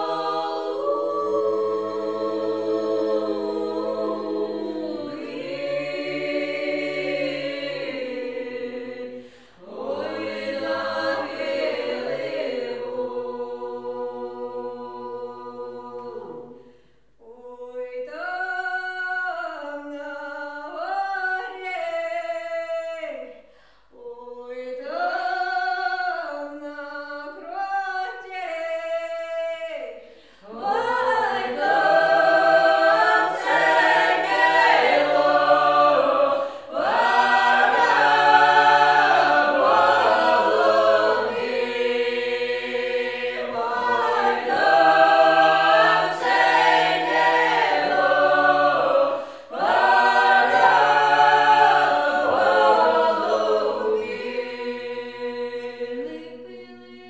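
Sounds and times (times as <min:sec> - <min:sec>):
group singing in harmony: 0:00.0 - 0:57.0.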